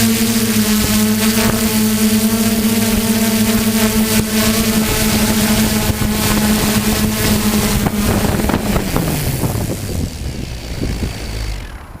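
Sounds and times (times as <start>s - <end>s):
drone motors humming: 0.0s - 12.0s
wind noise: 0.0s - 12.0s.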